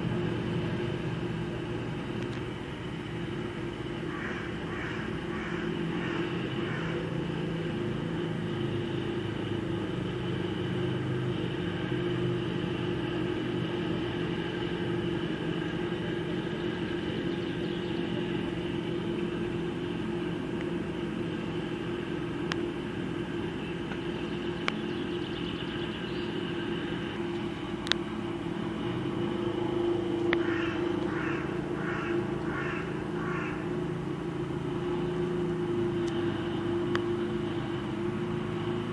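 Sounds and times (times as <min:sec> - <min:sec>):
distant helicopters droning: 0:00.0 - 0:38.9.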